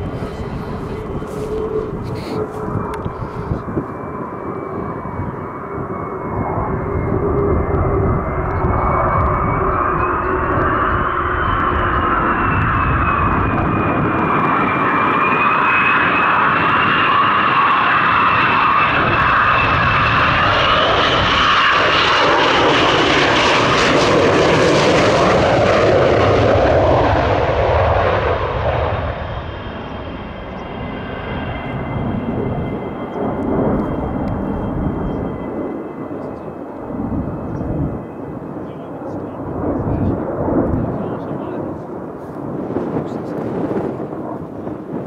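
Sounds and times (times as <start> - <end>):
jet engine whine and rush: 0.0 - 45.0.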